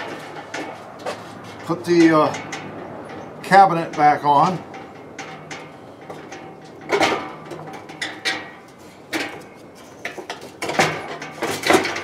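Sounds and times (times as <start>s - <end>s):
metal scraping and knocking: 0.0s - 12.0s.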